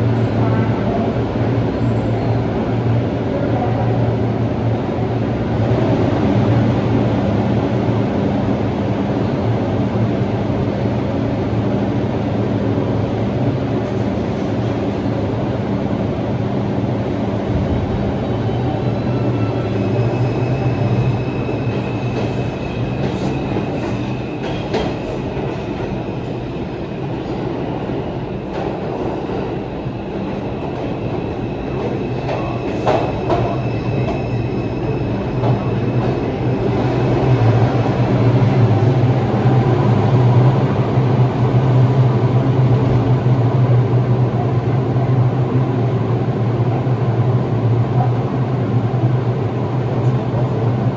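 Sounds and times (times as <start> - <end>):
subway train electric hum: 0.0 - 50.9.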